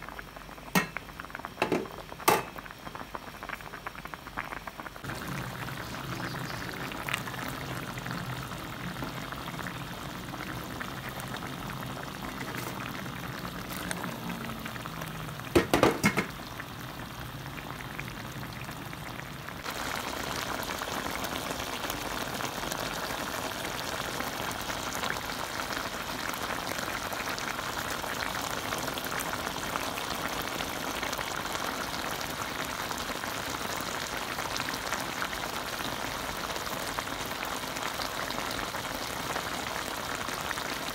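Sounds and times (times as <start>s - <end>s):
sauce simmering and bubbling: 0.0s - 40.9s.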